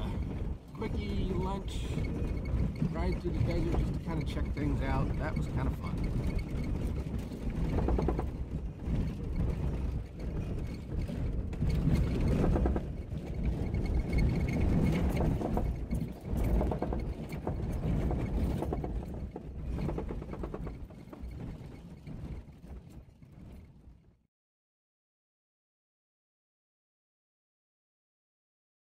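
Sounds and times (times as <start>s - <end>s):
knocks and rattles: 0.0s - 24.1s
off-road vehicle rumbling: 0.0s - 24.1s.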